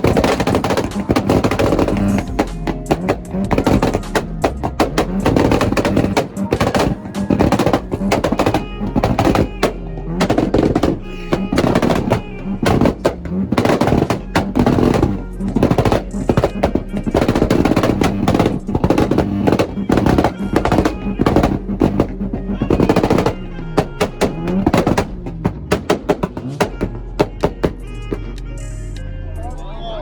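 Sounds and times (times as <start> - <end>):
exhaust pops and bangs: 0.0 - 28.5
background music: 0.0 - 30.0.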